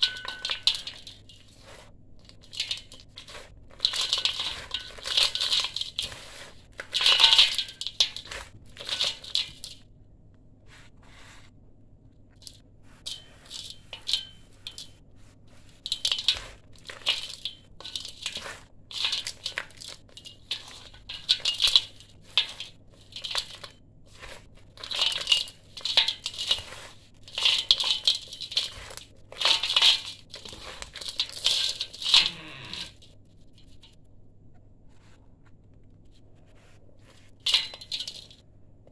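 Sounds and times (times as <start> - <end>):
gritty sand and cement crumbling: 0.0 - 9.8, 12.4 - 34.0.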